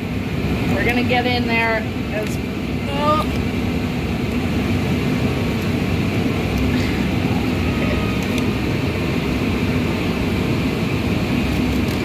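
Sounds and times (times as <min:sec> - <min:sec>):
mechanical drone: 0:00.0 - 0:12.0.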